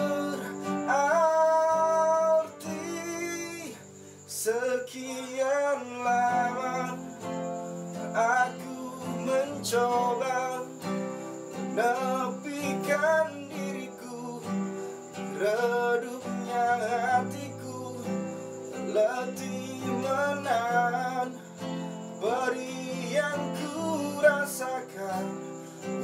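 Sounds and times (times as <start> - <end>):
man singing: 0.0 - 7.3, 7.9 - 11.0, 11.6 - 26.0
acoustic guitar: 0.0 - 26.0.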